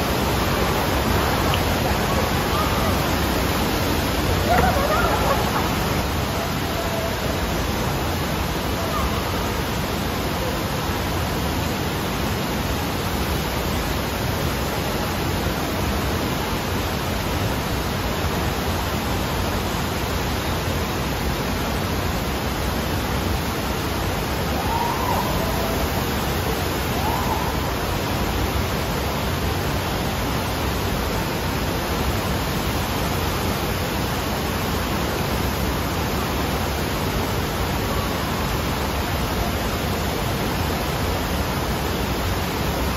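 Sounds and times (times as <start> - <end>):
rush of pumped water: 0.0 - 42.9.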